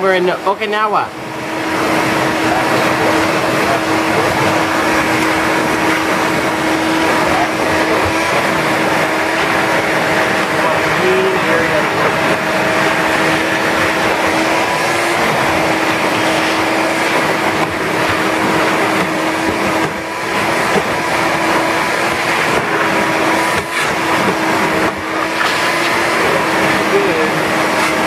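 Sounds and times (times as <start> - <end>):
vacuum cleaner running: 0.0 - 28.0
vacuum nozzle over carpet: 0.0 - 28.0.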